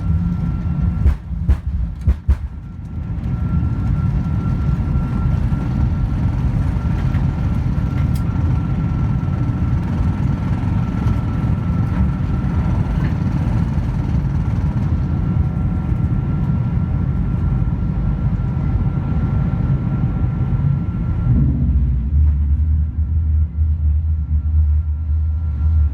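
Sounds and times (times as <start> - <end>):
airplane cabin engine rumble: 0.0 - 25.9.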